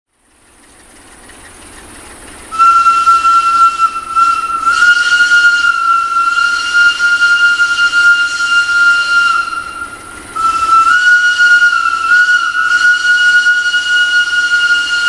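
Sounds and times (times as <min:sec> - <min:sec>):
locomotive air horn blast: 0:02.5 - 0:15.0.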